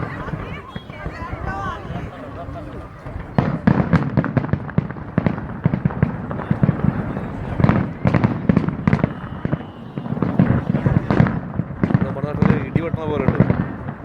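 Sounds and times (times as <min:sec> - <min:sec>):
fireworks bangs and crackles: 0:00.0 - 0:14.0
fireworks deep booms: 0:00.0 - 0:14.0.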